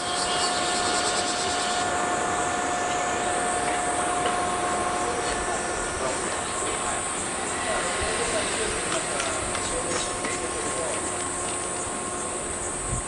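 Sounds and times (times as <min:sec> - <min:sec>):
electric train equipment humming: 0:00.0 - 0:13.0.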